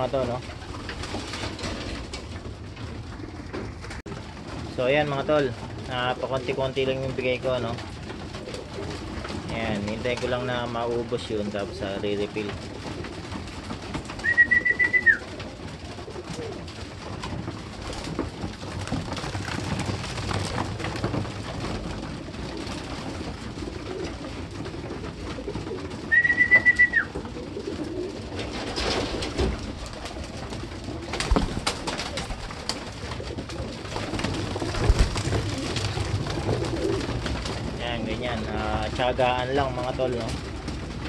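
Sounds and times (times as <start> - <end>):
pigeons cooing: 0.0 - 41.0.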